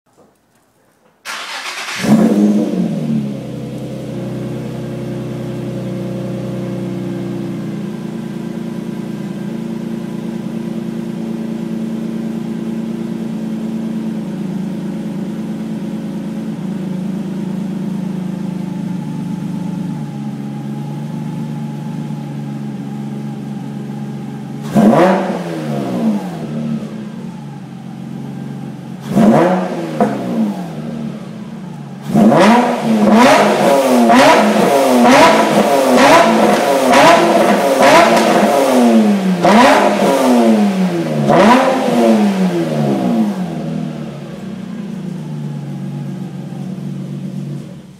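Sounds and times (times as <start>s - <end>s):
car engine starting and idling: 0.1s - 47.9s
engine throttle blips: 1.2s - 11.7s, 12.6s - 47.9s.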